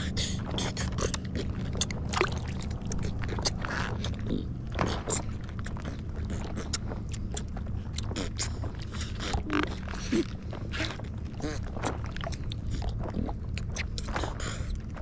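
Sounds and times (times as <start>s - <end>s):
small boat engine running: 0.0s - 15.0s.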